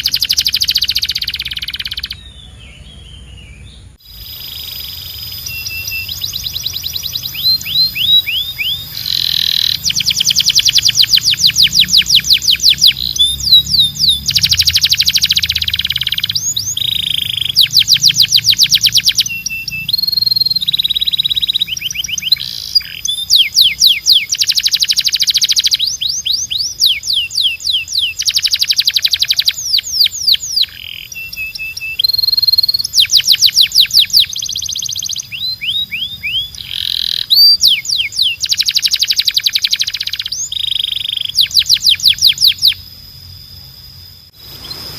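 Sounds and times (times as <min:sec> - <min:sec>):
canary singing trills: 0:00.0 - 0:44.9.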